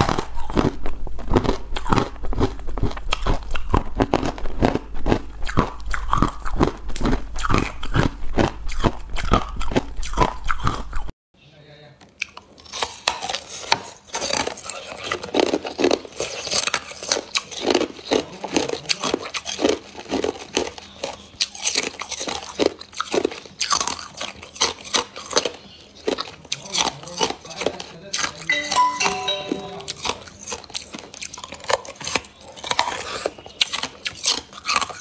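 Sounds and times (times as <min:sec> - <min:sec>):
ice being chewed: 0:00.0 - 0:11.1, 0:12.1 - 0:28.5, 0:30.0 - 0:35.0.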